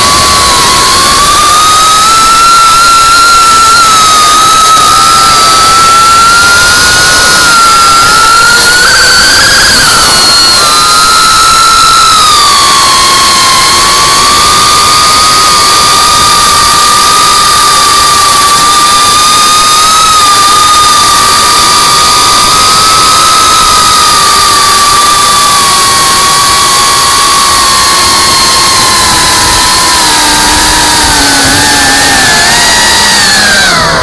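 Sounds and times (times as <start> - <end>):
drone motors whining: 0.0 - 34.0
wind noise on microphone: 0.0 - 34.0.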